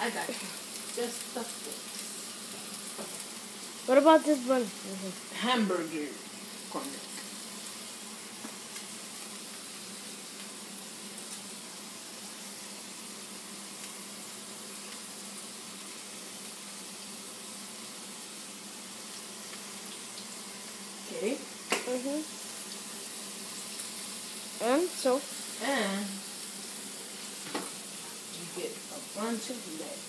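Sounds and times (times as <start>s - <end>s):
burger patties sizzling in a pan: 0.0s - 30.0s.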